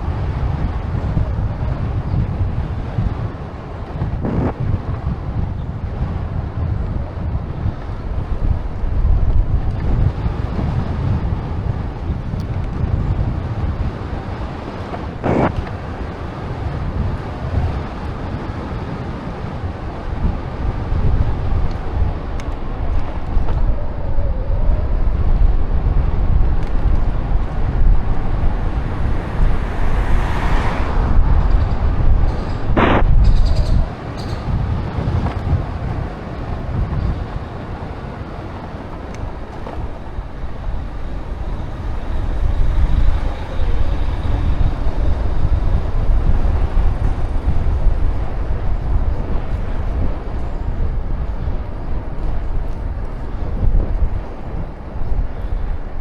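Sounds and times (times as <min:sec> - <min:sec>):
bicycle road noise: 0:00.0 - 0:56.0
wind buffeting microphone: 0:00.0 - 0:56.0.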